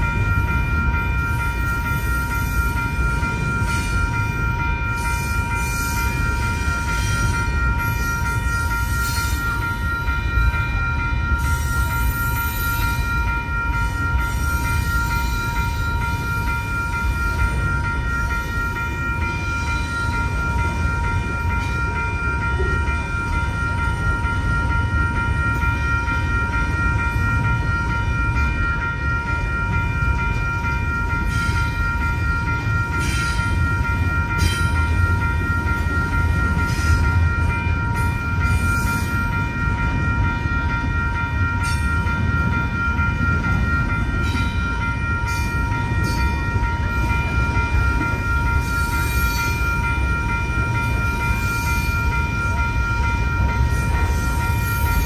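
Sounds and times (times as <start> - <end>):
crossing bell ringing: 0.0 - 55.0
freight train rumbling: 0.0 - 55.0.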